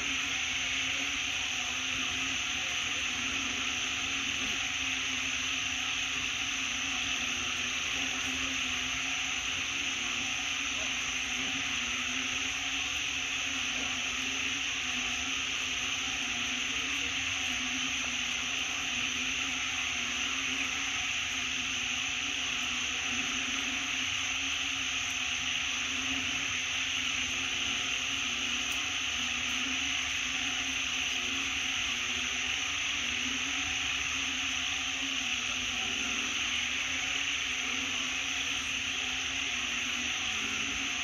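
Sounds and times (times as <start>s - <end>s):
faint low hum: 0.0s - 41.0s
high-pitched hiss: 0.0s - 41.0s.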